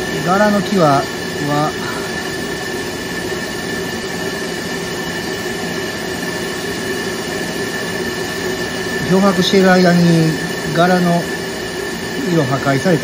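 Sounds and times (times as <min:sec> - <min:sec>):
high whine: 0:00.0 - 0:13.0
machine droning: 0:00.0 - 0:13.0.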